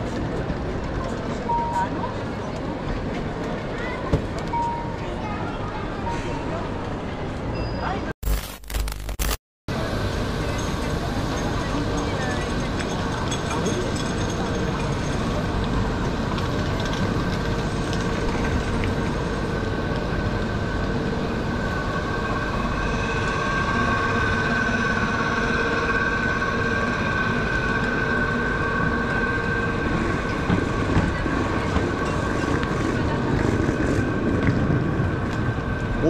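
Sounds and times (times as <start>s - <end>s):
standing train hum and whine: 0.0s - 8.0s, 9.2s - 36.0s.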